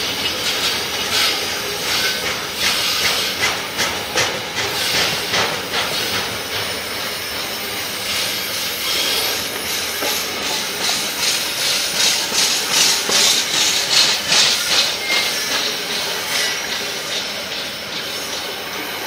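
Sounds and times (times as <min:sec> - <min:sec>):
freight train wheels rushing on rail: 0:00.0 - 0:19.0
rhythmic rail clatter: 0:00.0 - 0:19.0.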